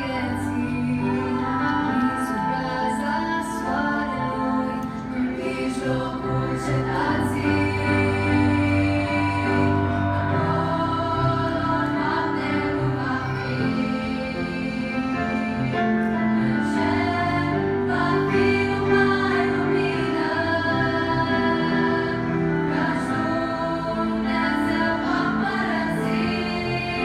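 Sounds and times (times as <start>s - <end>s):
choir singing sustained notes: 0.0s - 27.0s
grand piano: 0.0s - 27.0s.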